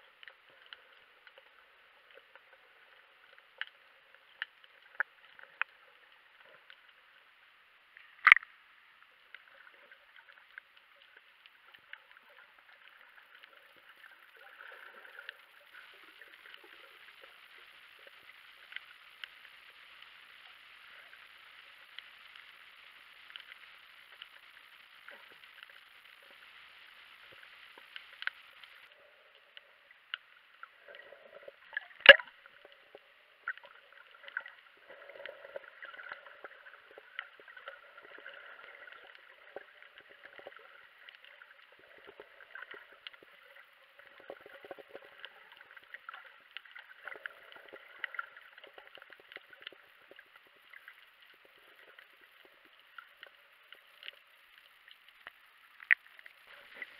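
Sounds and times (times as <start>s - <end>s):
underwater crackling hiss: 9.4s - 56.9s.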